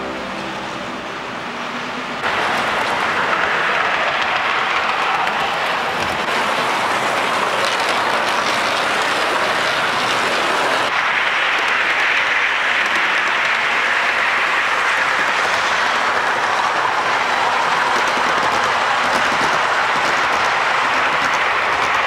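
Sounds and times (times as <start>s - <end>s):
toy trains rolling on metal track: 2.2s - 22.0s.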